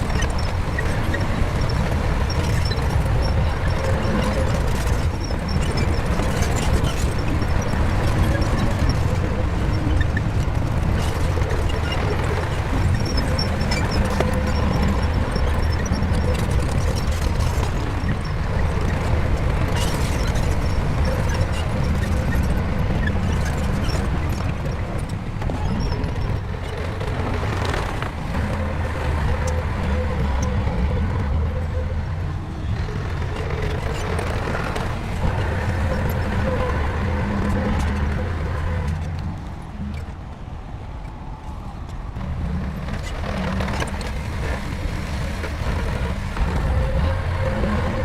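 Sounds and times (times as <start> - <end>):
bulldozer diesel engine rumbling: 0.0 - 48.0.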